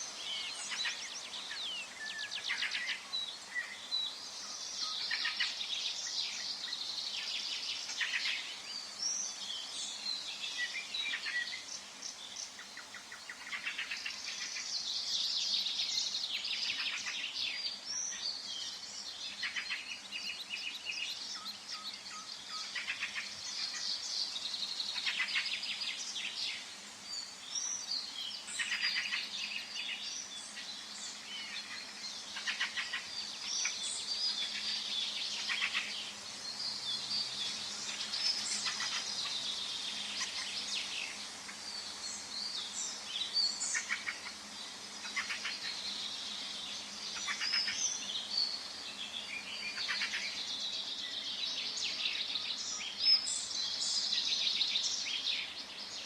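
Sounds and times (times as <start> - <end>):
faint background hiss: 0.0 - 56.0
songbirds singing and calling: 0.0 - 56.0.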